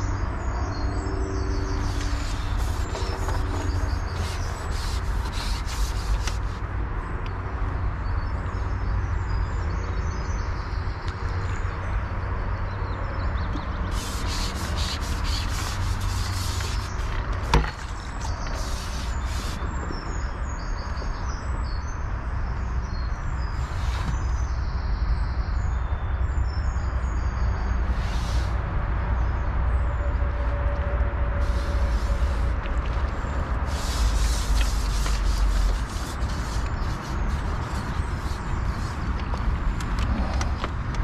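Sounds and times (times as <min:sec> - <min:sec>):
small birds chirping: 0:00.0 - 0:30.2, 0:31.4 - 0:41.0.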